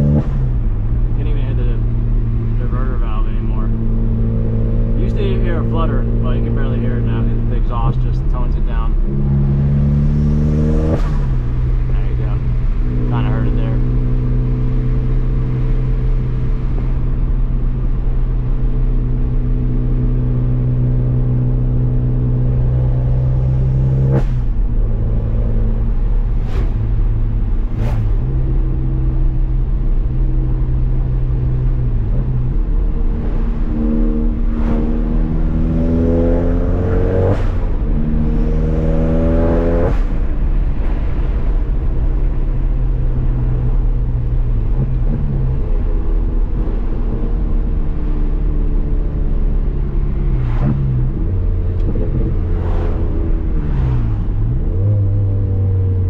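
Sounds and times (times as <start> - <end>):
turbocharged car engine revving: 0.0 - 56.0.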